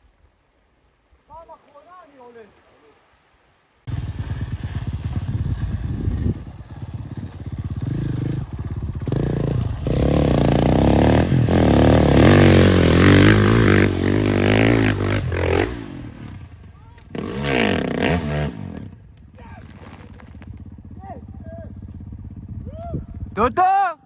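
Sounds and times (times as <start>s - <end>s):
dirt bike engine revving: 3.9s - 23.4s.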